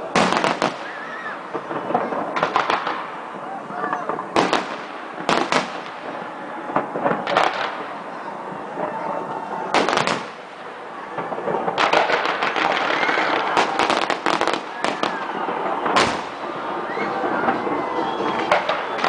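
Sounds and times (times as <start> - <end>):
crackling fireworks bangs: 0.0 - 19.0
fireworks bangs: 0.0 - 19.0.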